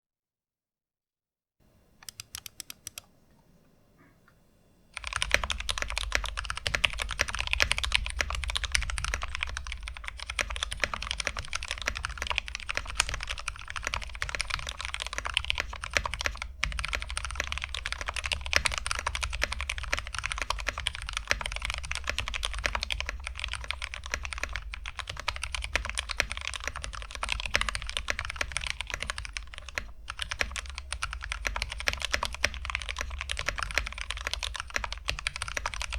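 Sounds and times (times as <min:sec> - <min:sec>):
mechanical keyboard typing: 0:02.0 - 0:03.1, 0:05.0 - 0:35.9.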